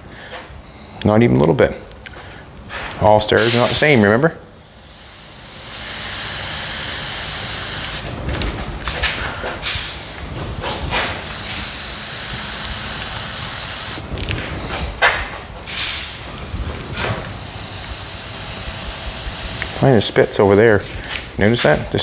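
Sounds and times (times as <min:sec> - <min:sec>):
paint spray gun hissing: 0:03.4 - 0:21.0.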